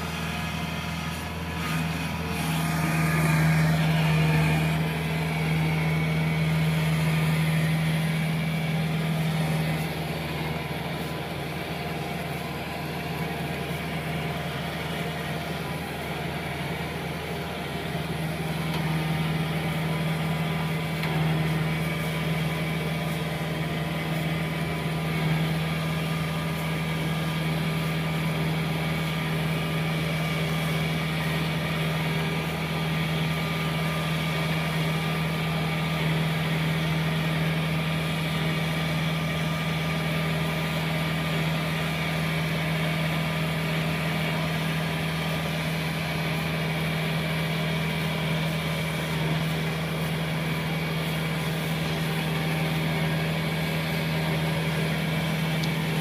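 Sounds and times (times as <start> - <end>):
combine harvester diesel engine running: 0.0 - 56.0.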